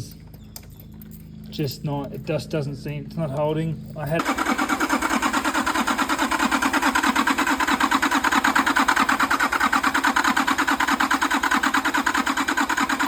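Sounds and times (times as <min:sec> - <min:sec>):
diesel engine cranking on starter: 0:00.0 - 0:13.0.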